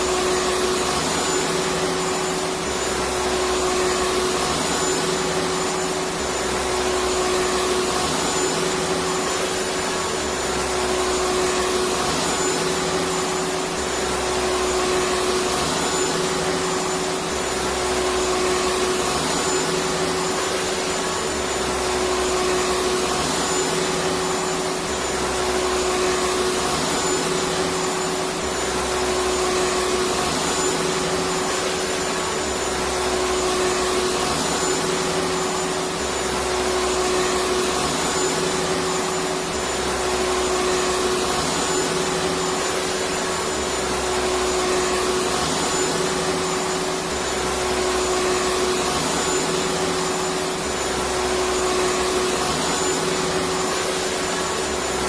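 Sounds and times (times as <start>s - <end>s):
vacuum cleaner motor: 0.0s - 55.0s.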